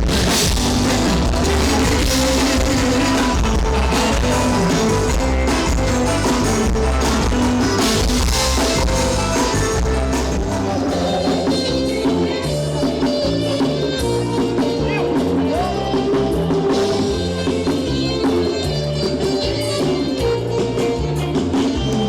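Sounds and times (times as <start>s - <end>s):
heavy bass: 0.0s - 22.0s
live band music: 0.0s - 22.0s.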